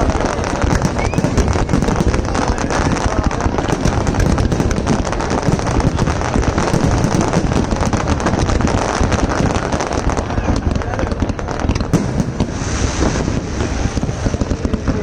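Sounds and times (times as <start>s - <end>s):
fireworks crackling and popping: 0.0s - 15.0s
wind rumbling on microphone: 0.0s - 15.0s.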